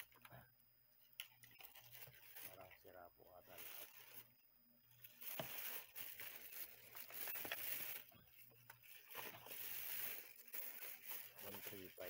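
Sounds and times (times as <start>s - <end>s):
rustling handling noise: 0.0s - 12.0s.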